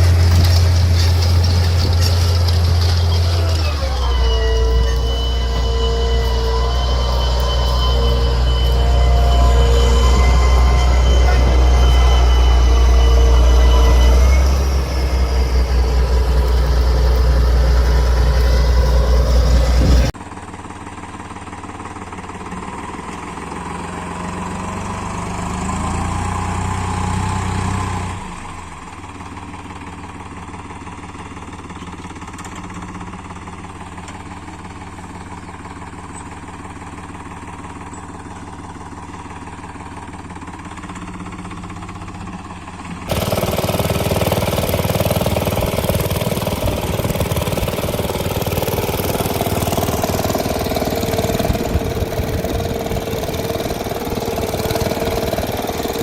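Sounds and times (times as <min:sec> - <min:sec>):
small tractor engine running: 0:00.0 - 0:56.0.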